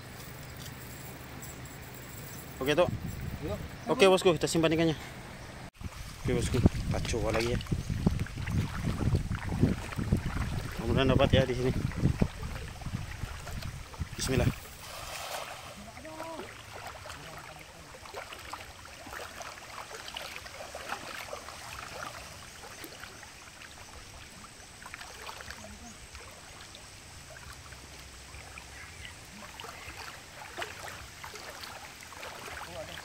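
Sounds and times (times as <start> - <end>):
river water flowing: 3.4 - 33.0
splashes of someone wading: 5.8 - 33.0.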